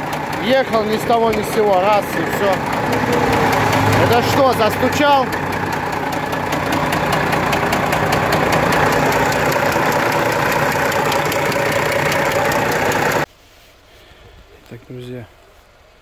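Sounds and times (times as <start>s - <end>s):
engine knocking: 0.0s - 13.3s
truck diesel engine idling: 0.0s - 13.3s.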